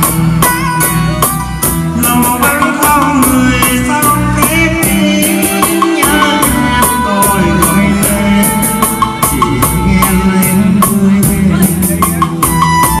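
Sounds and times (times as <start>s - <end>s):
electronic keyboard: 0.0s - 13.0s
steady drum beat: 0.0s - 13.0s
man singing into microphone: 1.9s - 13.0s.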